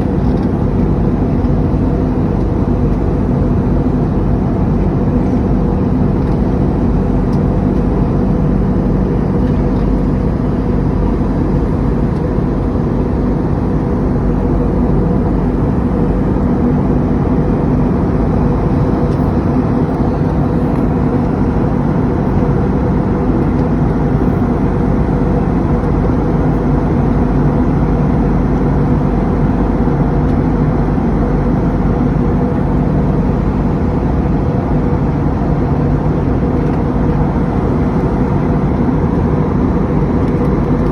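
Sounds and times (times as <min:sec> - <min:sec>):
airliner cabin engine roar: 0:00.0 - 0:40.9
constant low hum: 0:00.0 - 0:40.9.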